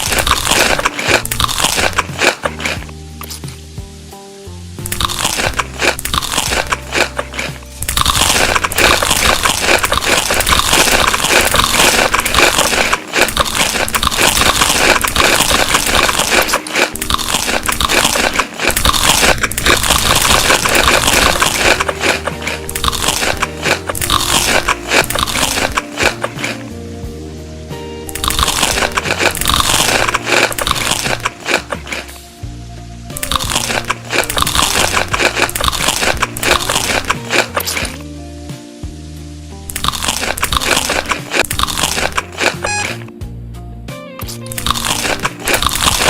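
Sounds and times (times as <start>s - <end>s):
chewing crunchy food: 0.0s - 3.8s, 4.8s - 26.8s, 28.1s - 32.4s, 33.2s - 38.1s, 39.7s - 43.2s, 44.2s - 46.0s.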